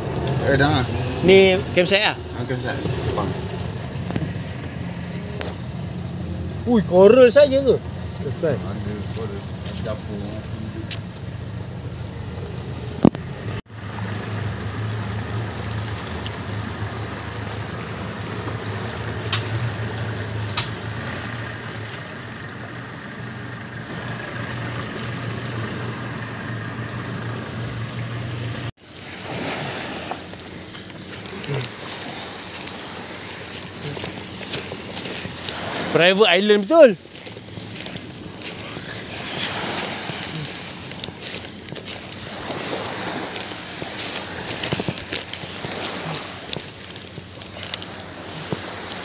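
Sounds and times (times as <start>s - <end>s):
water rushing past hull: 0.0s - 7.4s, 12.4s - 49.0s
boat engine running: 0.0s - 49.0s.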